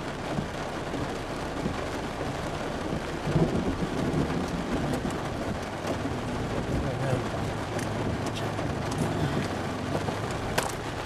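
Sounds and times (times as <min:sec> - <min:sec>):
rain falling: 0:00.0 - 0:11.0
thunder rumbling: 0:01.6 - 0:11.0.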